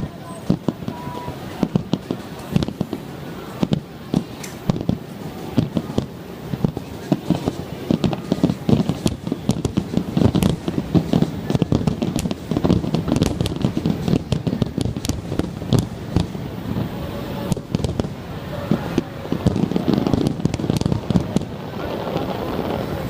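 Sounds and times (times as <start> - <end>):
fireworks booming and cracking: 0.0 - 23.0.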